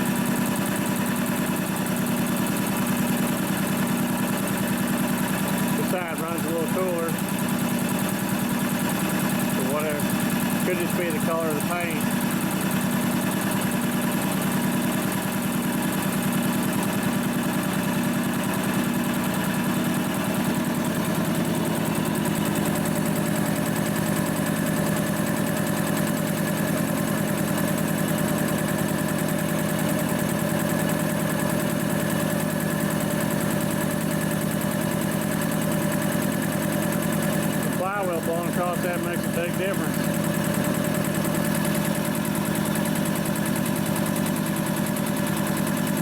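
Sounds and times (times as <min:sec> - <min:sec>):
air compressor chugging: 0:00.0 - 0:46.0.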